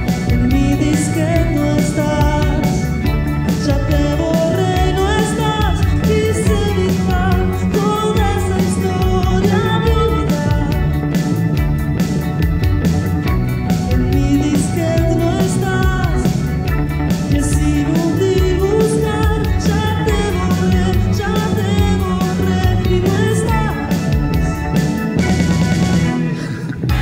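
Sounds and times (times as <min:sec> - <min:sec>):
rock song with female singer: 0:00.0 - 0:27.0.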